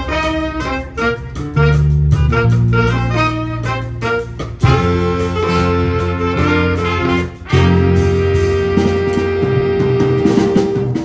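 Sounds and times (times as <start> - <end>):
jazz band playing: 0.0 - 11.0.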